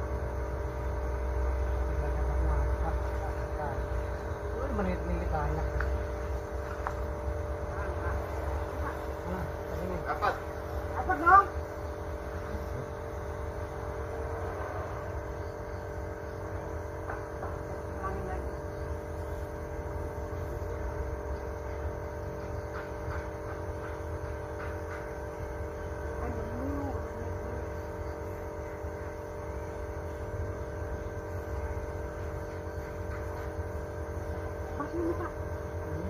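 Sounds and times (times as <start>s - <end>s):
steady motor hum: 0.0s - 36.0s.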